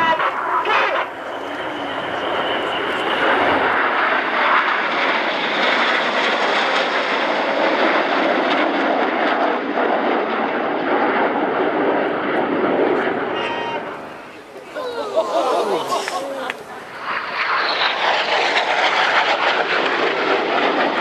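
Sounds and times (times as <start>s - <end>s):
aircraft flying past: 0.0s - 21.0s.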